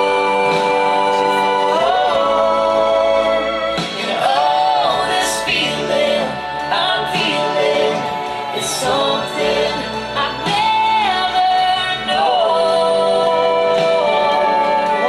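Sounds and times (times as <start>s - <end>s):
musical accompaniment: 0.0s - 15.0s.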